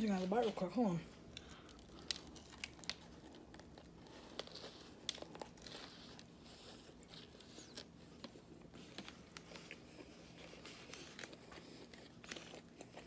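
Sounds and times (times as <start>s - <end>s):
person chewing and crunching: 0.5s - 13.0s.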